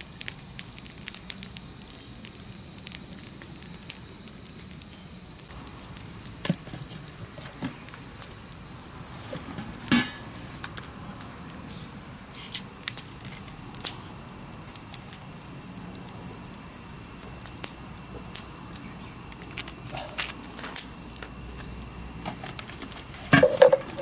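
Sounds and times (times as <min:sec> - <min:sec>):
campfire crackling: 0:00.0 - 0:24.0
insect-like chirring: 0:00.0 - 0:24.0.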